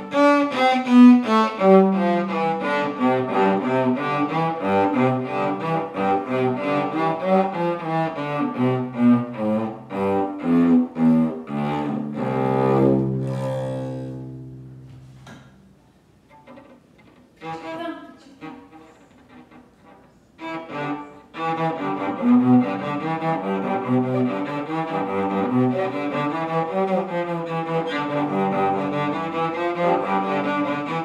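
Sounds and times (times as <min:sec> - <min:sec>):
bowed cello: 0:00.0 - 0:15.5, 0:16.2 - 0:31.0.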